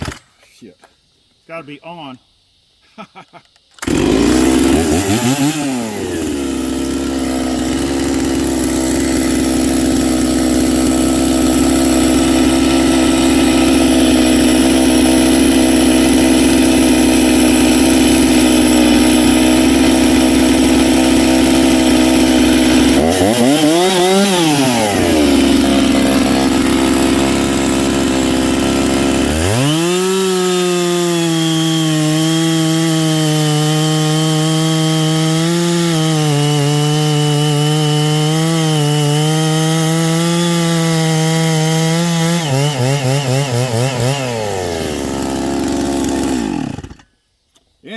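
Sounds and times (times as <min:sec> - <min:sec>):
chainsaw cutting wood: 0:03.8 - 0:47.2.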